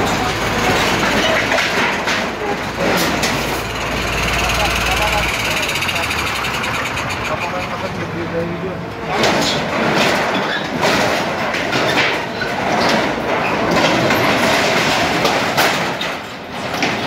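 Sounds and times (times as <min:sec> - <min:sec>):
metal crunching and scraping: 0:00.0 - 0:08.3, 0:08.9 - 0:17.0.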